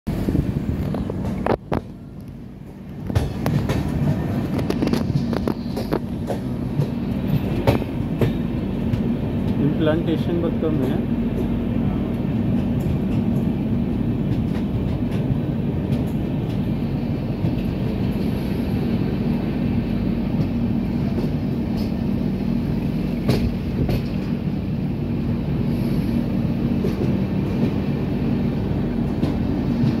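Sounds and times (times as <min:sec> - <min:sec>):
train wheels rumbling on rail: 0:00.1 - 0:30.0.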